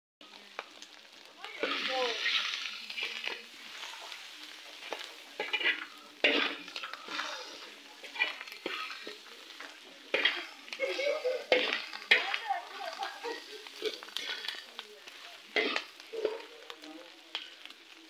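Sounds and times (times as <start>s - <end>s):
food sizzling in a pan: 0.2s - 18.0s.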